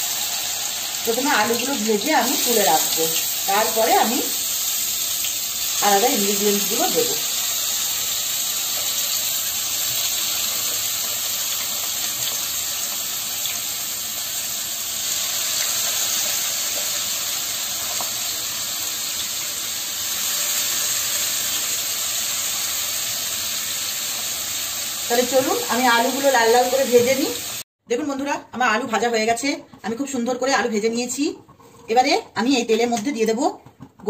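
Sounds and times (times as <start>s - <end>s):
potatoes sizzling in oil: 0.0s - 27.6s.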